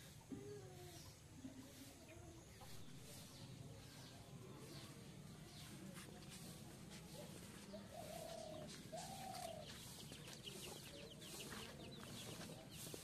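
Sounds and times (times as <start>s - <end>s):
birds calling: 2.0s - 13.0s.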